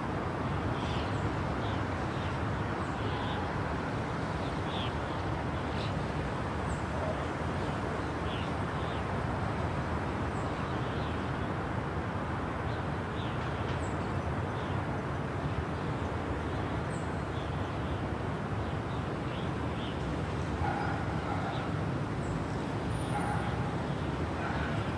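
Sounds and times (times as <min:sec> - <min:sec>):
distant city traffic rumble: 0:00.0 - 0:24.9.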